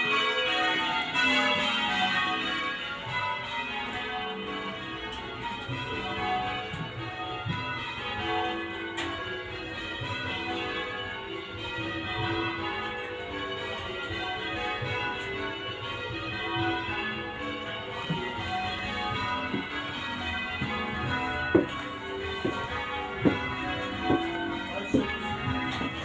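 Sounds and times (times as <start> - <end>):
church bells change ringing: 0.0 - 26.0.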